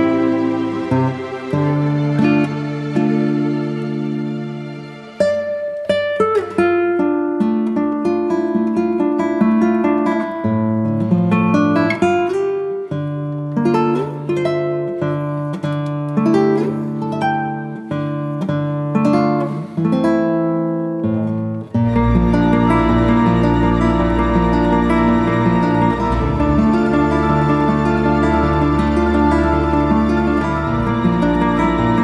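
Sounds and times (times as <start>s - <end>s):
acoustic guitar music: 0.0s - 32.0s.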